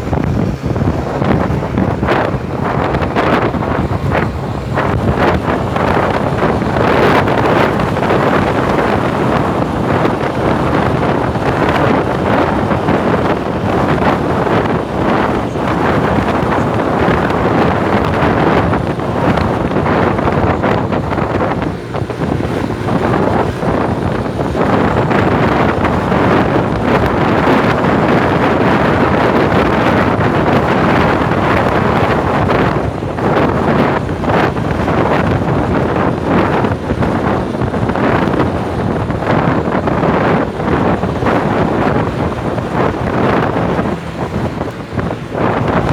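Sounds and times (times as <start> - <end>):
vehicle noise: 0.0 - 45.9
wind buffeting microphone: 0.0 - 45.9.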